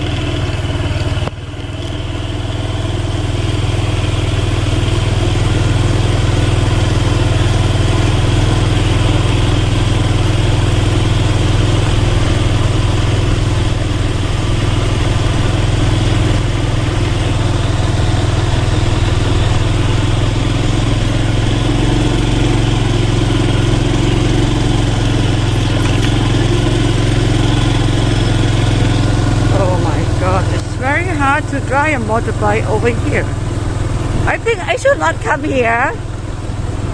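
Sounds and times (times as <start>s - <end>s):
motorbike engine running: 0.0s - 36.9s.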